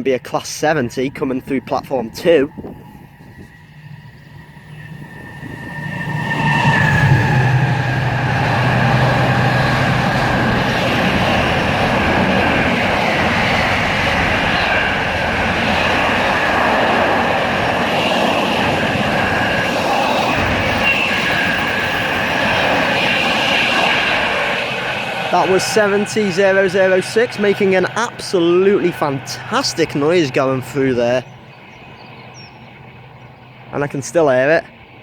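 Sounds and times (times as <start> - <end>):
diesel locomotive engine: 0.0 - 35.0
train rumbling past: 0.0 - 35.0.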